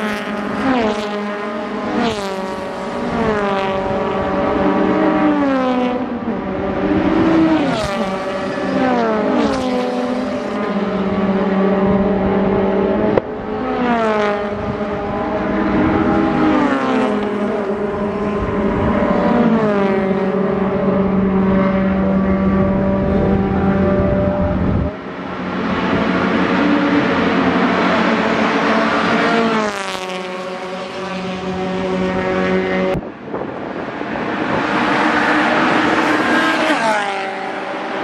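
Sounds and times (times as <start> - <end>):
distant engines droning: 0.0 - 38.0
race cars passing at high revs: 0.0 - 38.0.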